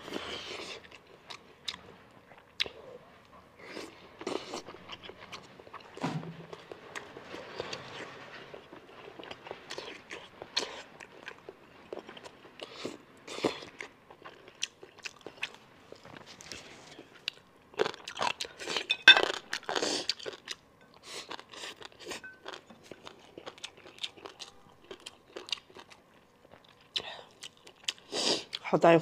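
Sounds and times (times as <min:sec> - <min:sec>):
person chewing food: 0:00.0 - 0:03.0, 0:03.6 - 0:28.6.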